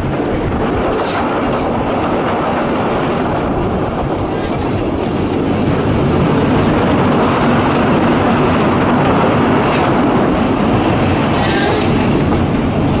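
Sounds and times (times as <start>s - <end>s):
clatter over rail joints: 0.0s - 13.0s
train wheels rumbling on rail: 0.0s - 13.0s.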